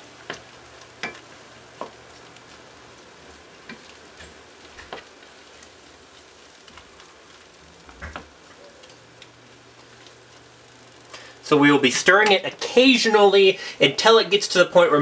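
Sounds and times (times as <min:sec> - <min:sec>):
marinade boiling in a pan: 0:00.0 - 0:15.0.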